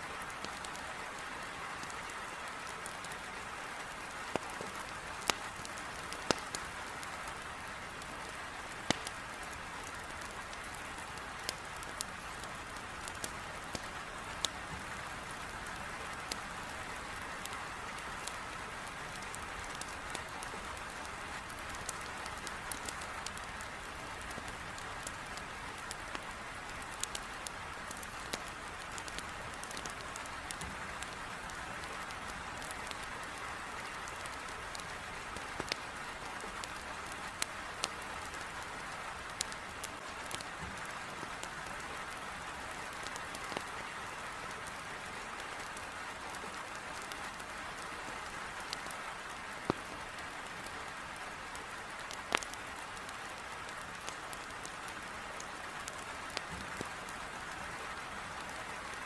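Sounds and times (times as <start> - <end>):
heavy rain against a window: 0.0 - 59.0
firewood crackling and popping: 0.2 - 59.0.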